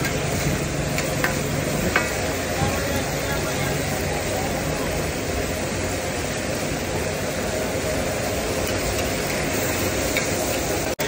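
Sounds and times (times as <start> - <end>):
liver sizzling on a griddle: 0.0 - 11.0.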